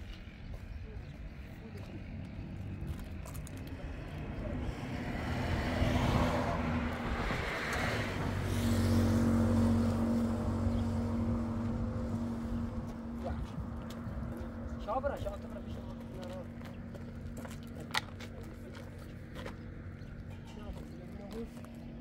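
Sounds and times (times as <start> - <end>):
engine humming steadily: 0.0 - 22.0
vehicle passing: 2.0 - 22.0.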